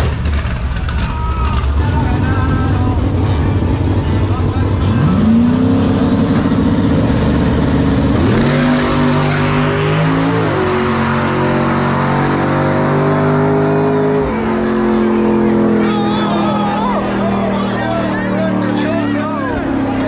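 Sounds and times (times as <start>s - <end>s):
drag racing engines accelerating: 0.0s - 20.0s.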